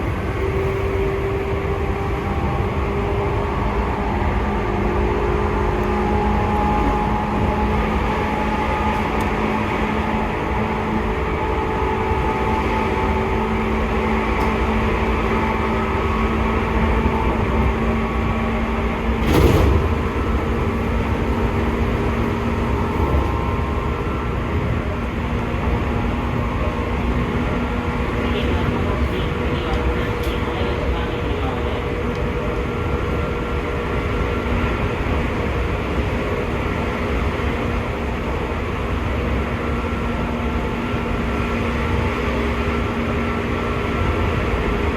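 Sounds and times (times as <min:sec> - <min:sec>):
train running gear rumble: 0:00.0 - 0:44.9.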